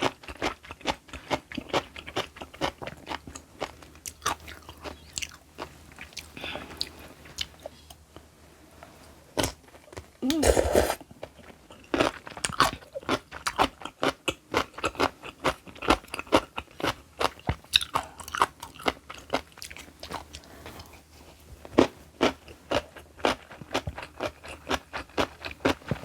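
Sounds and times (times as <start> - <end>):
wet crunching of chewing: 0.0 - 7.9, 10.6 - 21.0, 21.7 - 26.0.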